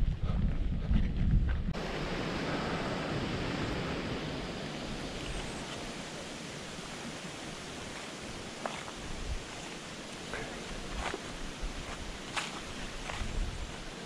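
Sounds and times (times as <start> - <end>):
stream water running over rocks: 1.8 - 14.0.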